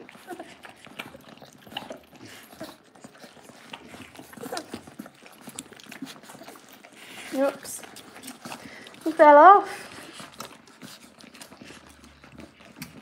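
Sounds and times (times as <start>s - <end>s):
puppies squeaking: 0.0s - 13.0s
puppies suckling: 0.0s - 13.0s.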